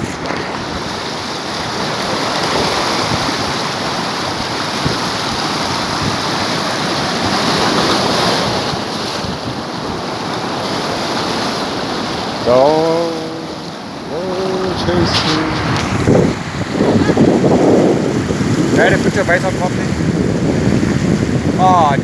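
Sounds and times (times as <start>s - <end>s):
sea surf washing against rocks: 0.0s - 22.0s
wind buffeting microphone: 0.0s - 22.0s.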